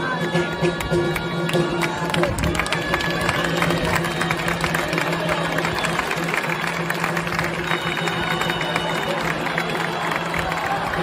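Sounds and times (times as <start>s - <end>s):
crowd noise: 0.0s - 11.0s
music: 0.0s - 11.0s.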